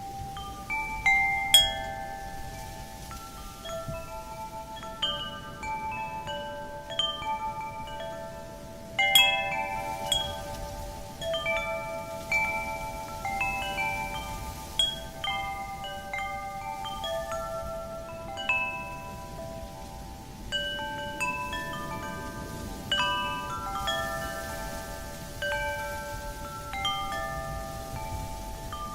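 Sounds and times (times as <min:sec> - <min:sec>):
faint wind: 0:00.0 - 0:28.9
wind chimes ringing: 0:00.0 - 0:28.9.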